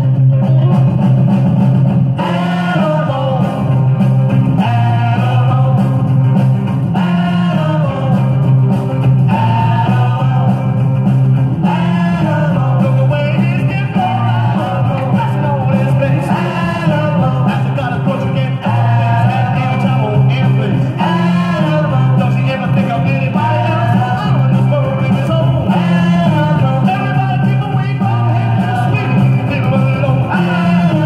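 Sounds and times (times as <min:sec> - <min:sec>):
rock and roll song with singing: 0:00.0 - 0:31.0.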